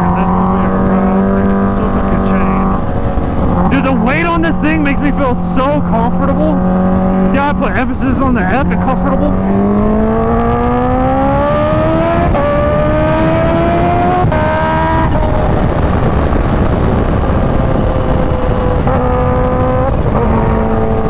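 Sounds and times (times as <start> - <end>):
heavy wind rush: 0.0 - 21.0
motorcycle engine accelerating: 0.0 - 21.0.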